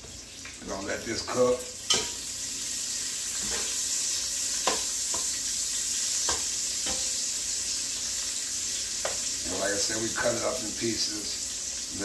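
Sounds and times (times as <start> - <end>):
bacon sizzling in a pot: 0.0 - 12.0.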